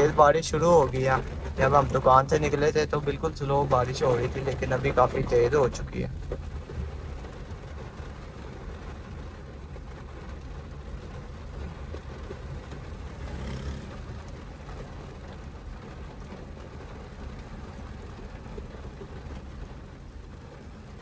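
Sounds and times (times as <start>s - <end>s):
car engine and road noise: 0.0s - 21.0s
heavy rain hissing: 0.0s - 21.0s.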